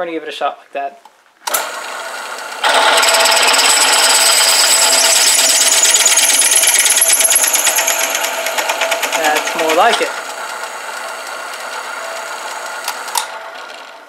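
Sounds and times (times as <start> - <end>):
drill press running: 1.5 - 14.0
drill bit cutting steel whine: 2.3 - 14.0.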